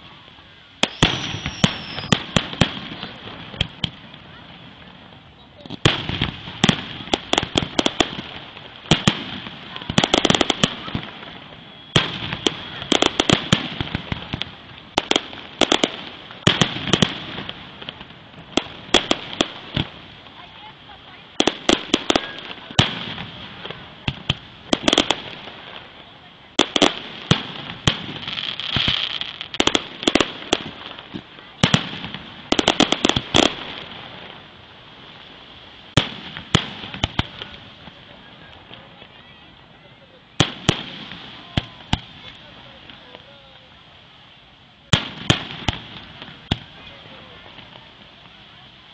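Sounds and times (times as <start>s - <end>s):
fireworks bursting with sharp bangs: 0.0s - 48.9s
steady hiss: 0.0s - 48.9s.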